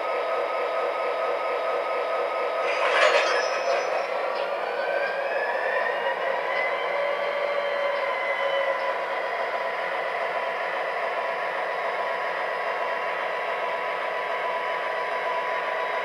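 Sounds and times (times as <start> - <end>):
model train diesel engine sound: 0.0 - 16.0.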